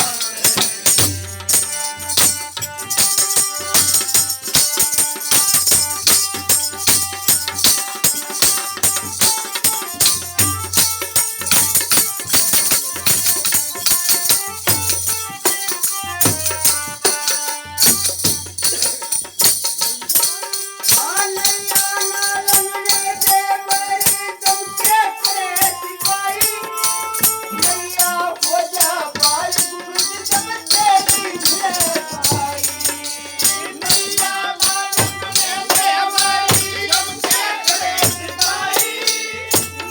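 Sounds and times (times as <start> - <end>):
pulsing drum beat: 0.0 - 21.8, 29.1 - 39.9
jingling percussion: 0.0 - 39.9.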